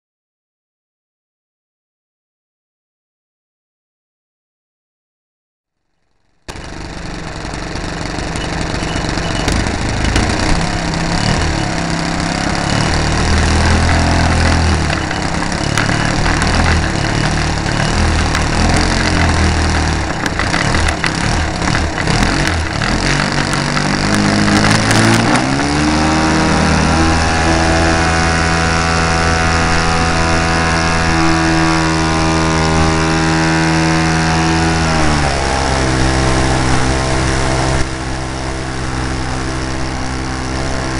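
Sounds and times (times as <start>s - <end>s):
model airplane motor running: 6.5s - 40.9s.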